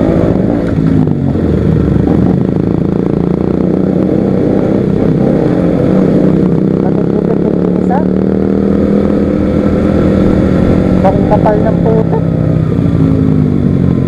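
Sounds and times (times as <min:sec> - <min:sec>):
motorcycle engine cruising: 0:00.0 - 0:14.0
road noise: 0:00.0 - 0:14.0.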